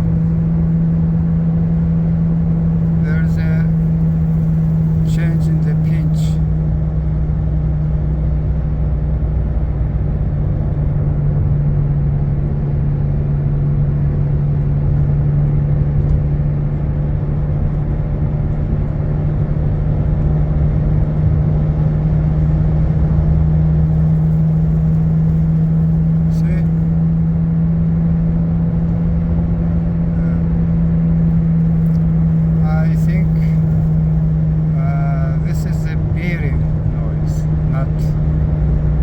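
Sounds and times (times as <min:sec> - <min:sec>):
low hum: 0:00.0 - 0:39.0
road rumble: 0:00.0 - 0:39.0.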